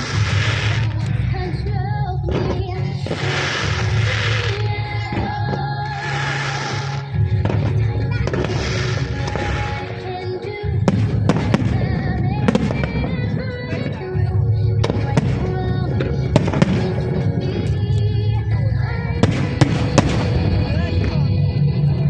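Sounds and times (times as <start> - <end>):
loud show music with heavy bass: 0.0 - 5.3, 5.9 - 22.0
fireworks bursting: 0.0 - 21.2.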